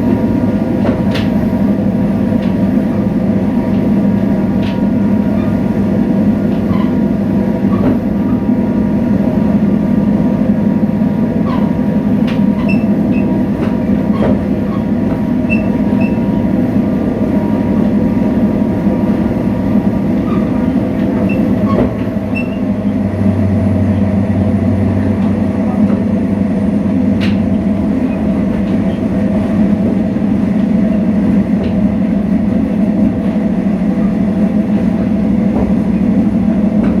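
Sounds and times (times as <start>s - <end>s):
diesel locomotive engine droning: 0.0s - 37.0s
train clicks and rattles: 0.0s - 37.0s.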